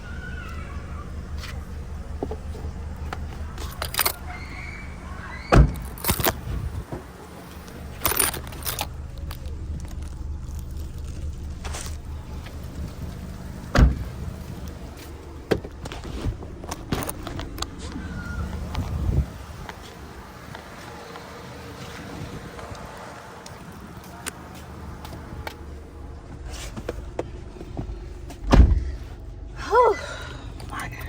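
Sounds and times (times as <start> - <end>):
car engine and road hum: 0.0 - 31.0.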